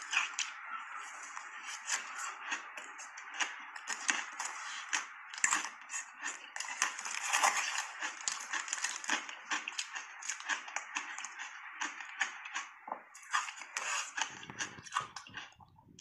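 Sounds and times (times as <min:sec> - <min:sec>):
chewing crunchy shaved ice: 0:00.0 - 0:15.7.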